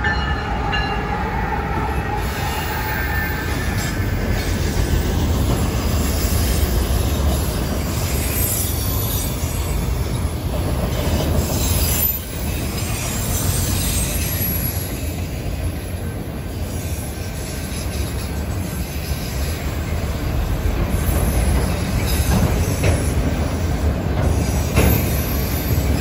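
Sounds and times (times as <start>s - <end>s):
freight cars rolling on rails: 0.0s - 26.0s.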